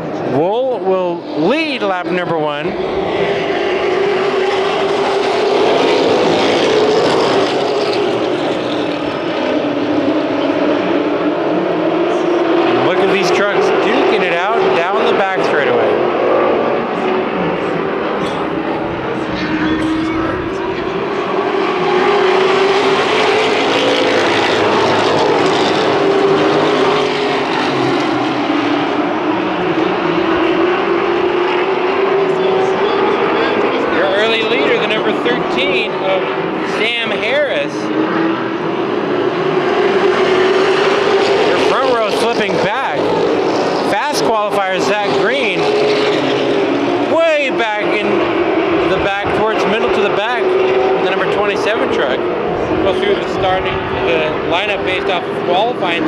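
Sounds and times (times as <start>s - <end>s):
race truck engines droning: 0.0s - 56.0s.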